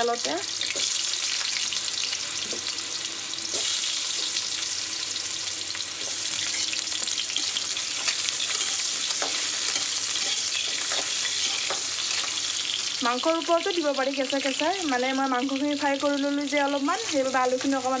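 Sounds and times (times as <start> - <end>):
potatoes frying in hot oil: 0.0 - 18.0.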